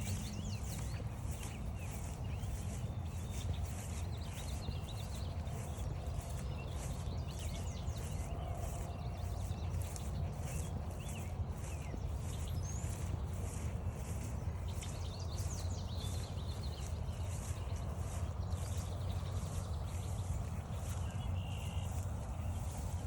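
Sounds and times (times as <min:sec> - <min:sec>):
continuous low rumble: 0:00.0 - 0:23.0
footsteps on a trail: 0:00.0 - 0:23.0
songbirds chirping: 0:00.0 - 0:23.0.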